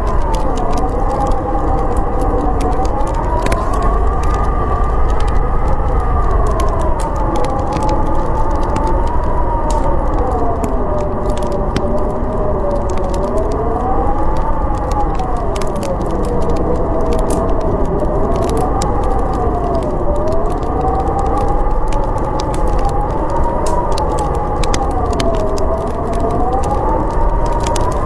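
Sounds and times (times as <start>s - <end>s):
howling whistling wind: 0.0s - 28.0s
wood fire crackling: 0.0s - 28.0s.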